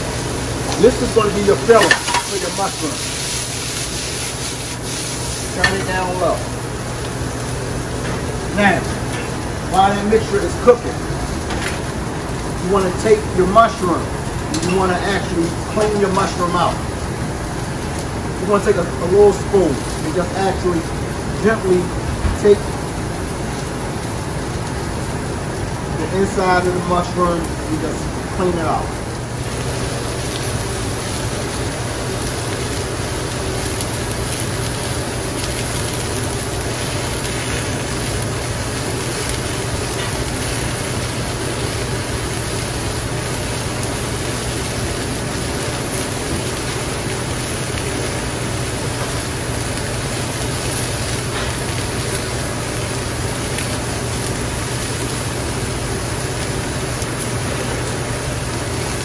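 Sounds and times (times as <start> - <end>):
kitchen equipment humming: 0.0 - 59.0.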